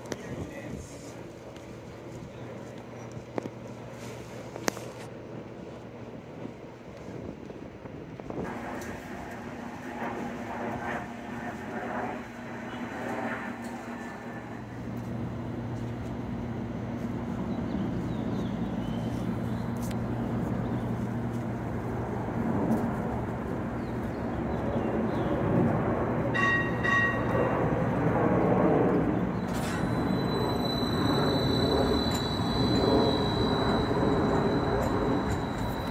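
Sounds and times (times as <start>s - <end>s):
streetcar rumble: 0.0s - 35.9s.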